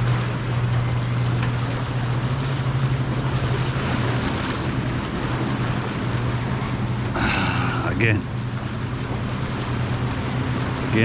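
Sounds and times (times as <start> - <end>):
boat motor humming: 0.0 - 11.0
water noise: 0.0 - 11.0
wind: 0.0 - 11.0.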